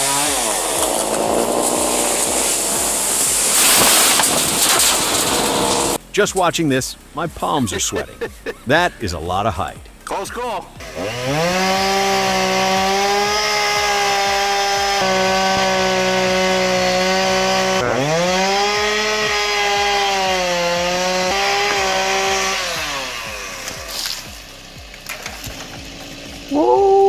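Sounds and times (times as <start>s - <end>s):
chainsaw engine at high revs: 0.0s - 6.1s, 7.9s - 26.8s.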